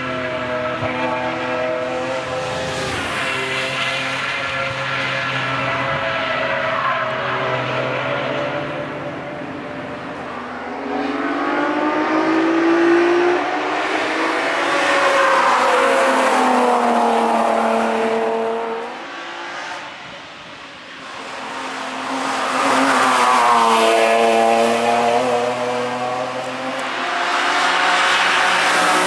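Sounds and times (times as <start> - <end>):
car engines revving past: 0.0 - 29.0.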